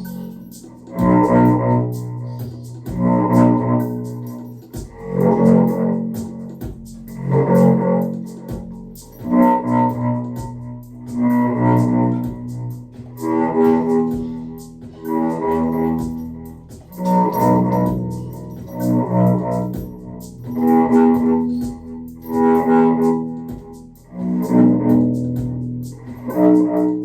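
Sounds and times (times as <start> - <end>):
sustained pitched instrumental tones: 0.0 - 27.0.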